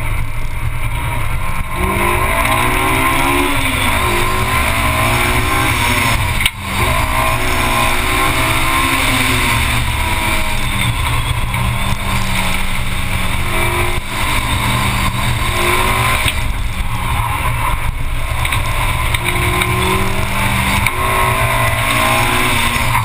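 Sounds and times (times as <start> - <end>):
car engine revving: 0.0 - 23.0
wind rumble on camera: 0.0 - 23.0.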